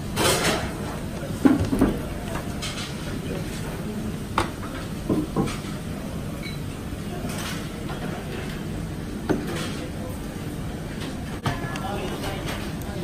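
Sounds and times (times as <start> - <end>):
restaurant background hum: 0.0 - 13.0.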